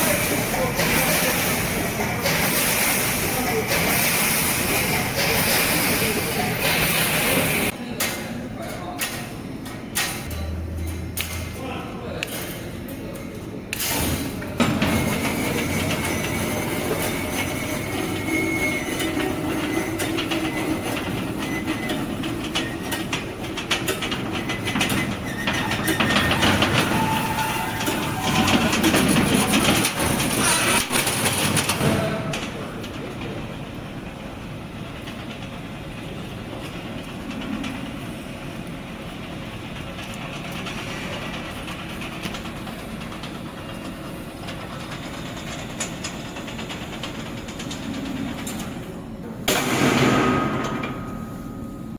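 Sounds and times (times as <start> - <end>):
welding machine mechanical clatter: 0.0 - 51.5.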